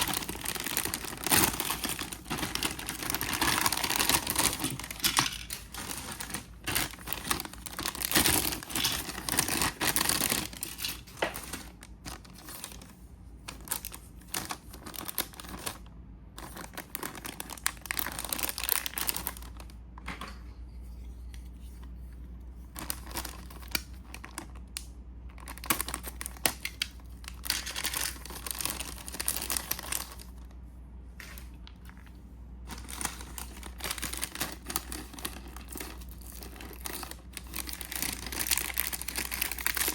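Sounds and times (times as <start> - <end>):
plastic wrap and paper crinkling: 0.0 - 19.9, 22.5 - 39.9.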